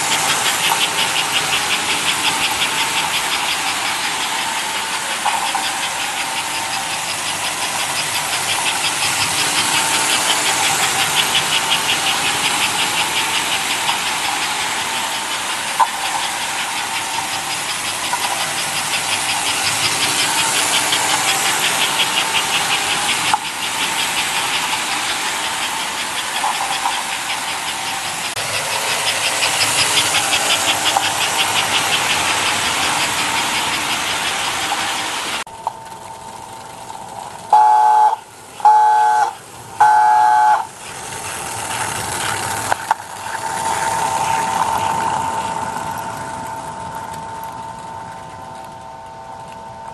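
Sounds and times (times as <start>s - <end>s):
model train whirring on track: 0.0s - 49.9s.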